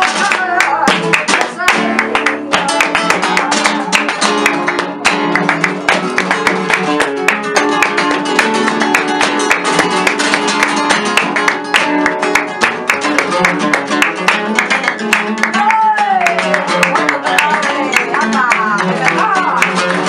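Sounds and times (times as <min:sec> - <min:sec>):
flamenco acoustic guitars: 0:00.0 - 0:20.0
rhythmic hand clapping: 0:00.0 - 0:20.0.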